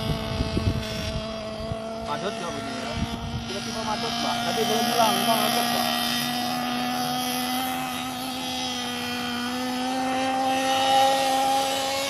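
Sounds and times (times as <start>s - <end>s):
small glow engine revving high: 0.0s - 12.0s.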